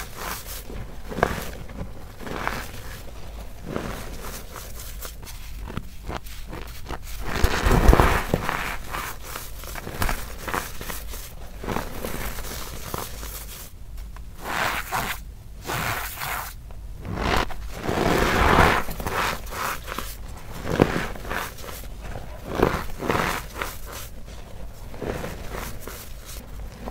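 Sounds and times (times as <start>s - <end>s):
powder squeaky crunching: 0.0s - 13.7s, 17.1s - 26.9s.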